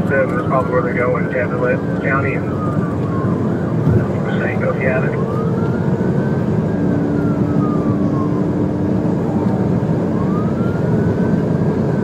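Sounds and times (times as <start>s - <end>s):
car road and engine noise: 0.0s - 12.0s
police siren wailing: 0.0s - 12.0s.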